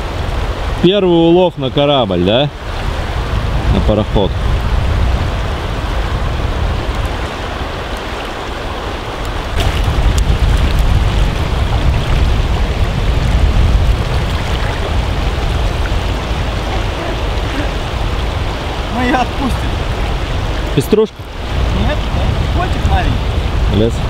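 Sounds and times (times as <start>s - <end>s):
fast-flowing river rushing: 0.0s - 24.0s.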